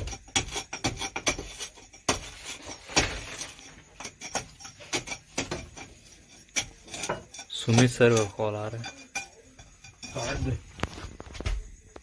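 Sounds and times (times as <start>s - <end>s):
hard objects clinking and knocking: 0.0s - 11.4s.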